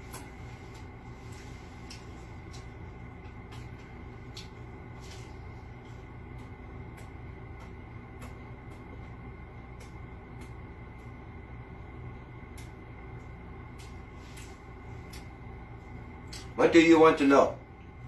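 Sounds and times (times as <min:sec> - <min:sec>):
man chewing food: 0:00.0 - 0:16.6
steady low hum: 0:00.0 - 0:18.0.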